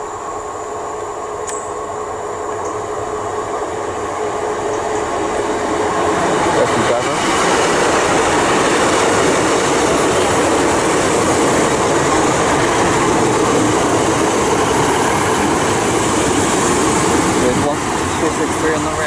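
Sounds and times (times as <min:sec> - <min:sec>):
train passing on rails: 0:00.0 - 0:19.0.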